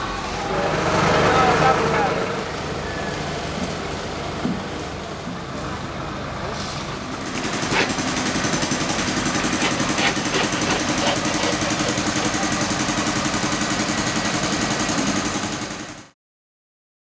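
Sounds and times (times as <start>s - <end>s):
engine idling: 0.3s - 16.0s.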